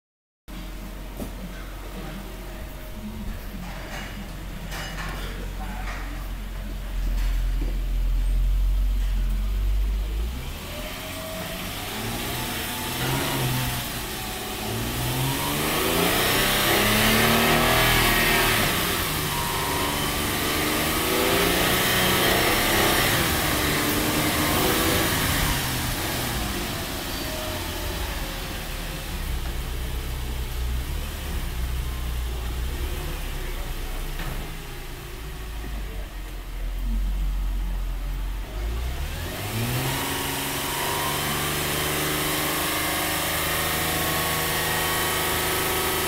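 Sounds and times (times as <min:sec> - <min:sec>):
car engine and drivetrain revving: 0:00.6 - 0:46.0.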